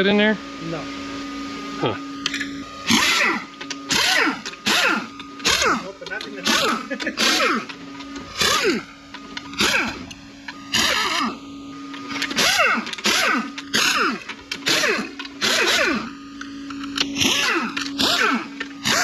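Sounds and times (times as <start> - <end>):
power tool whirring: 1.0 - 19.0.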